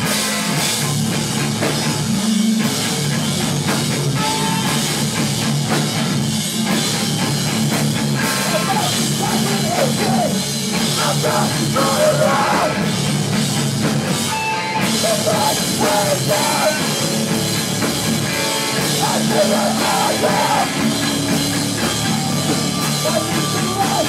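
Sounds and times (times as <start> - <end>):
punk band playing live: 0.0 - 24.0.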